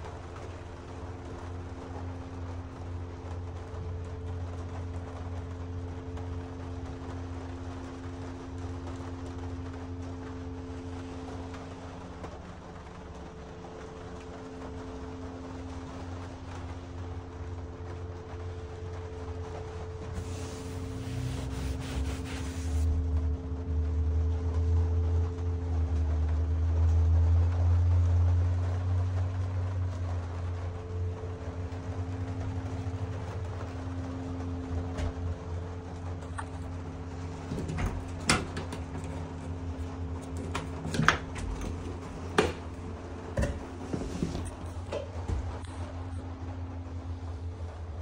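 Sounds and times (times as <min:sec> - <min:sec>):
faint steady hum: 0:00.0 - 0:48.0
rain on a roof: 0:00.0 - 0:48.0.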